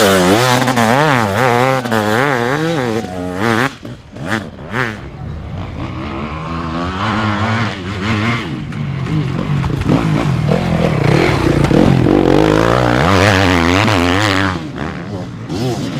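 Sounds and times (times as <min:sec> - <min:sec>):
dirt bike engine revving: 0:00.0 - 0:15.9.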